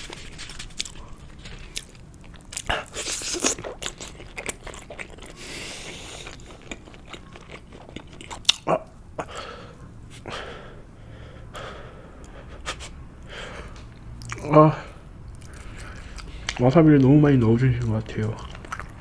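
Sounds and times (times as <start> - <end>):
wet chewing mouth sounds: 0.0 - 10.6, 11.6 - 19.0.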